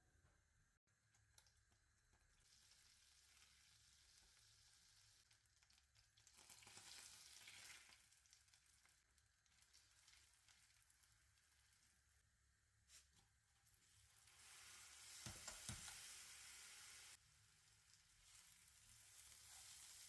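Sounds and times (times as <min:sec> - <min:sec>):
food sizzling in a pan: 0:02.2 - 0:12.2, 0:12.9 - 0:20.0.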